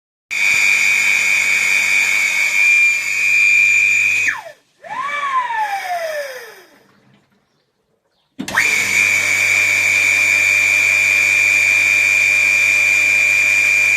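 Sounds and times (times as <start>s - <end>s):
pool pump motor whining: 0.3s - 7.5s, 8.4s - 13.9s.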